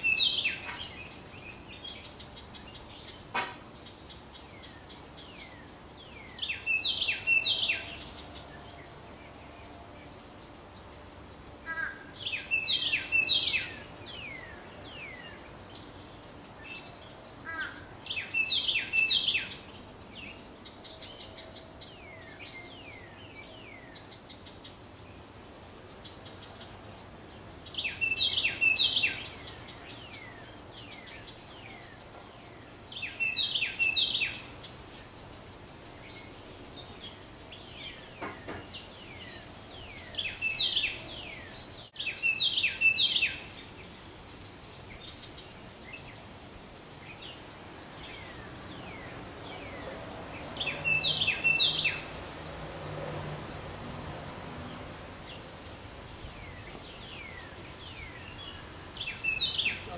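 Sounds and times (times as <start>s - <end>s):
wren singing: 0.0s - 59.9s.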